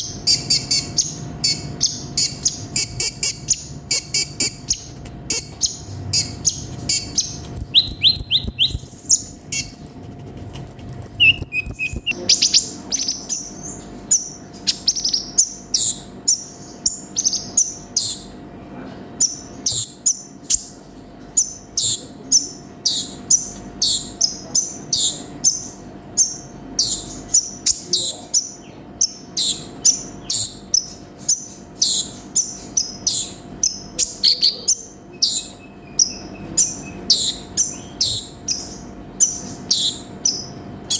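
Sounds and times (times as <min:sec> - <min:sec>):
bird chirping and trilling: 0:00.0 - 0:18.4, 0:19.2 - 0:20.8, 0:21.4 - 0:40.9.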